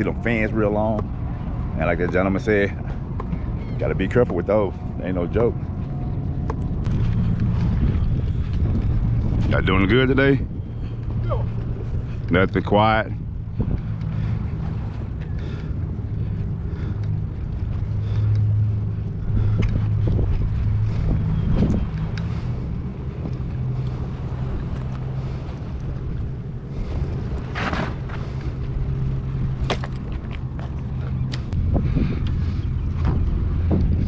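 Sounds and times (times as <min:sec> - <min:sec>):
low engine drone: 0:00.0 - 0:34.0
wind on microphone: 0:00.0 - 0:34.0.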